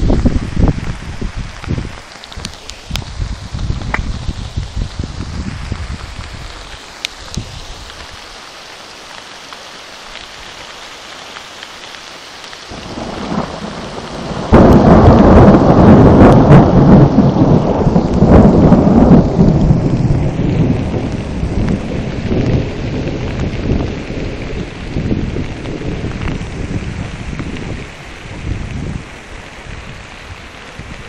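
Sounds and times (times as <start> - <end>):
thunder rumbling: 0.0 - 6.6, 12.7 - 31.0
steady rain: 0.0 - 31.0.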